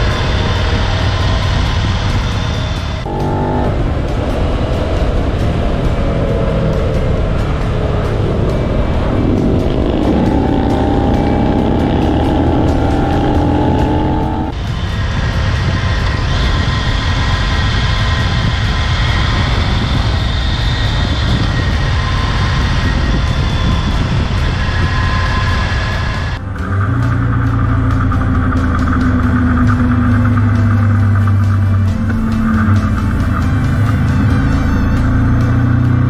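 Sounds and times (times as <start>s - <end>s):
motorcycle engine revving: 0.0s - 36.0s
wind rushing: 0.0s - 36.0s.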